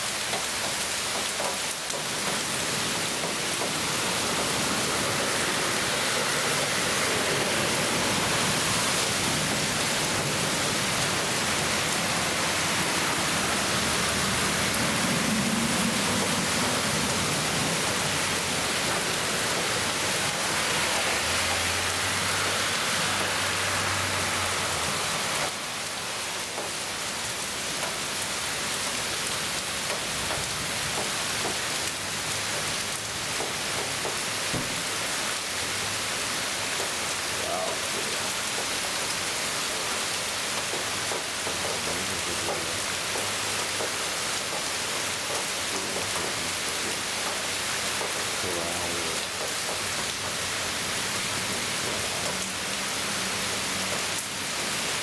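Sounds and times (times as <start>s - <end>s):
heavy rain pouring: 0.0s - 55.0s
water running off pavement: 0.0s - 55.0s
cars splashing through water: 0.1s - 55.0s.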